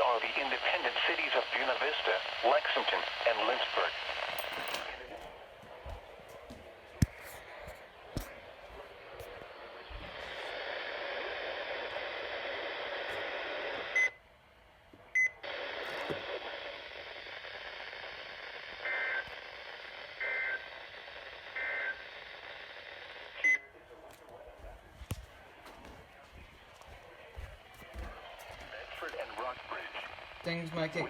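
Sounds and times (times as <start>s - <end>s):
radio static hiss: 0.0s - 14.1s, 15.4s - 31.0s.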